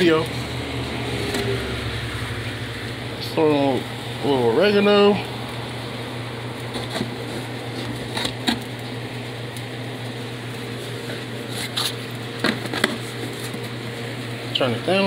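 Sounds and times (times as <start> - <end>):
kitchen equipment humming and hissing: 0.0 - 15.0.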